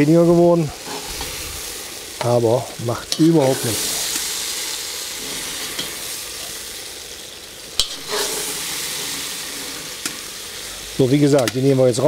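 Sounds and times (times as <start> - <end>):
mushrooms sizzling in oil: 0.0 - 12.0.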